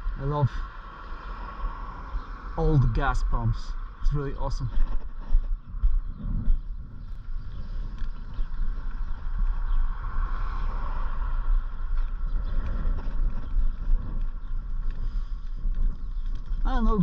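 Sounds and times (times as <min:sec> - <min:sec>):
wind buffeting microphone: 0:01.0 - 0:17.0.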